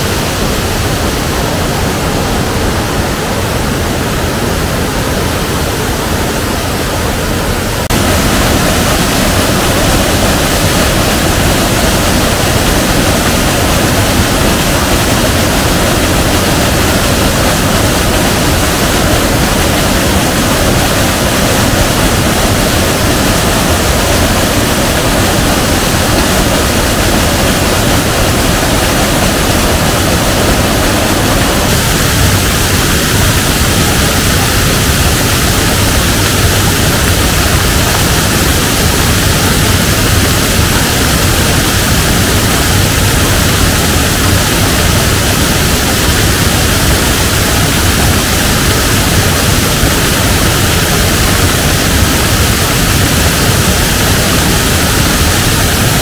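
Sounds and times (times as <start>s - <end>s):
river rushing in flood: 0.0s - 56.0s.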